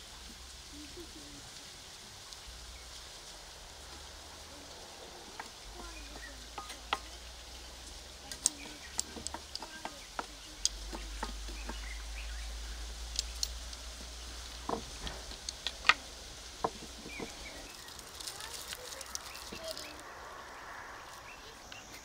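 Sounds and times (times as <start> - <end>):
fat crackling and popping in pan: 0.0 - 22.0.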